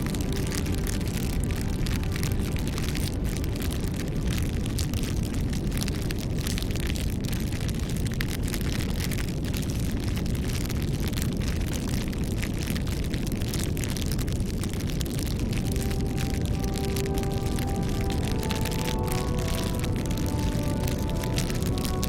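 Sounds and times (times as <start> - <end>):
low rumble: 0.0 - 9.1, 10.2 - 22.0
bonfire crackling: 0.0 - 22.0.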